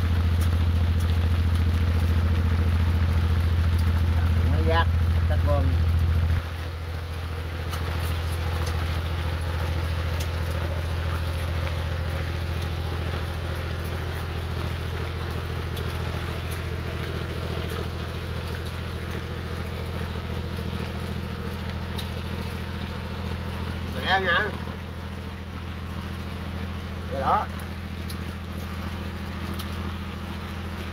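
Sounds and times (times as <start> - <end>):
boat engine humming: 0.0 - 30.9
rain hissing: 0.0 - 30.9.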